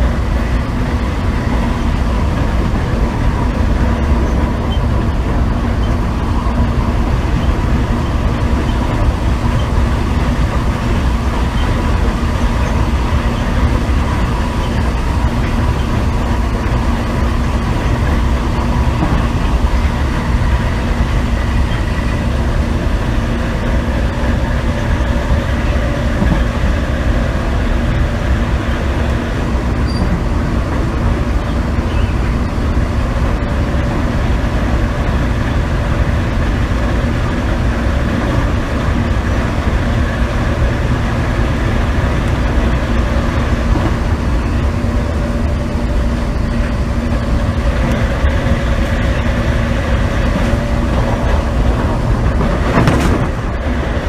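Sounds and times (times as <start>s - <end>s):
traction motor hum and whine: 0.0s - 54.0s
wheels rumbling on track: 0.0s - 54.0s.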